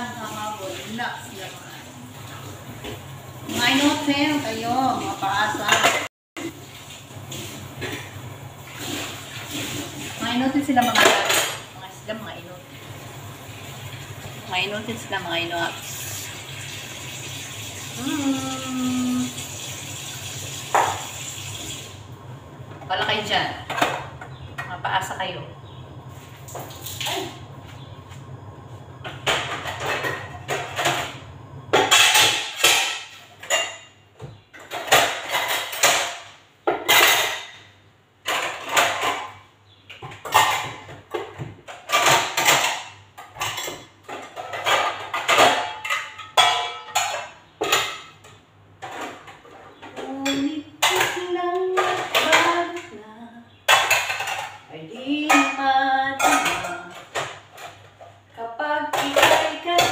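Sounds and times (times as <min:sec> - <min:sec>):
pots and pans clanking: 0:05.0 - 0:06.7, 0:07.3 - 0:21.8, 0:22.6 - 0:24.9, 0:29.0 - 0:52.9, 0:53.6 - 0:58.3, 0:58.9 - 0:59.9.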